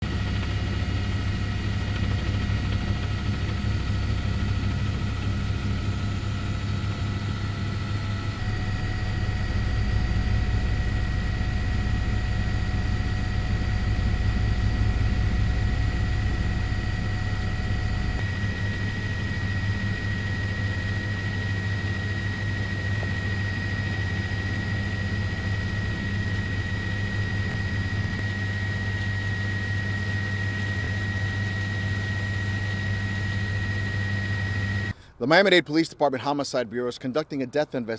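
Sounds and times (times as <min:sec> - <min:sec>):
helicopter low drone: 0:00.0 - 0:37.9
thin high whine: 0:00.0 - 0:37.9.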